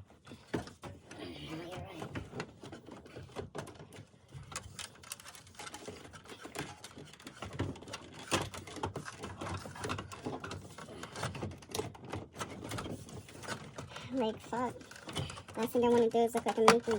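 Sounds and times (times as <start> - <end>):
plastic parts clicking and rattling: 0.0 - 16.9.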